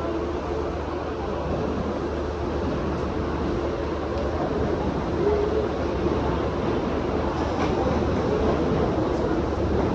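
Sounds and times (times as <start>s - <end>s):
electric train rumbling: 0.0s - 9.9s.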